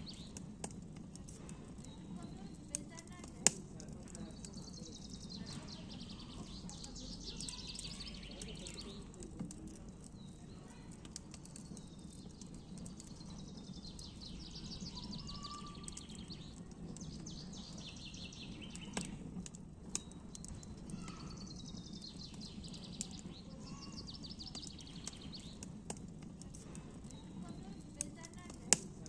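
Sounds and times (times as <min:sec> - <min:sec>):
birds singing trilled notes: 0:00.0 - 0:29.0
campfire crackling and popping: 0:00.0 - 0:29.0.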